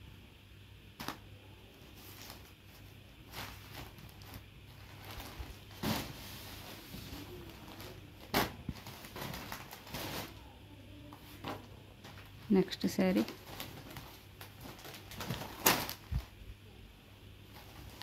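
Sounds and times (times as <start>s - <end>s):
fabric and packaging rustling: 1.0s - 16.5s, 17.4s - 18.0s.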